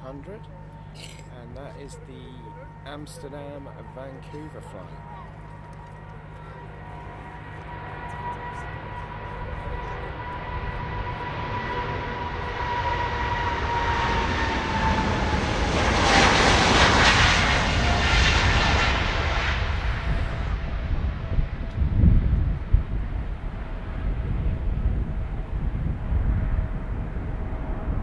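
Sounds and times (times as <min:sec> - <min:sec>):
jet engines roaring at take-off: 0:00.0 - 0:28.0.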